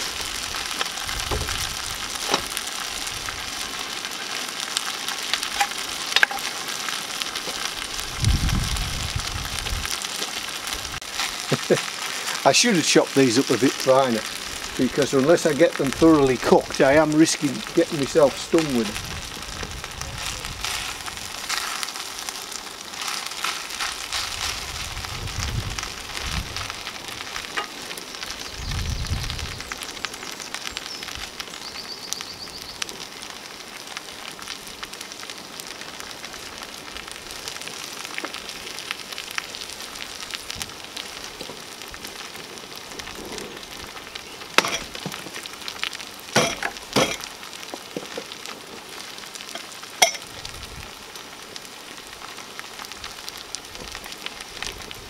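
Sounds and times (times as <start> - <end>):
greens sizzling in a pan: 0.0 - 55.0.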